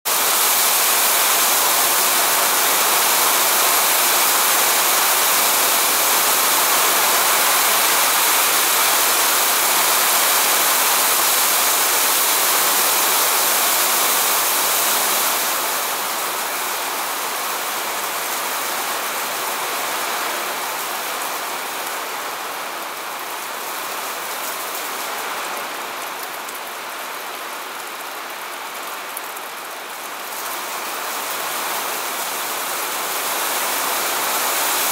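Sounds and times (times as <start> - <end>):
rain on grass and trees: 0.0 - 34.9.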